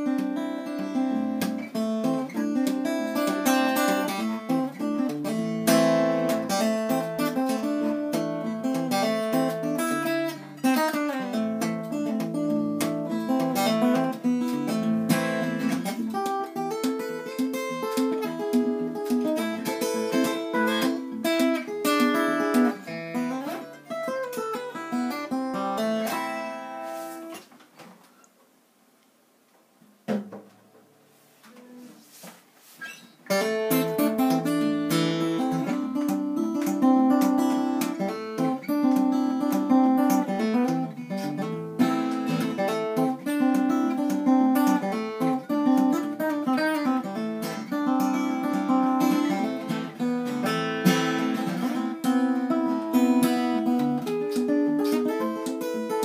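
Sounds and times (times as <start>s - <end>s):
acoustic guitar playing: 0.0s - 27.5s, 30.0s - 56.0s.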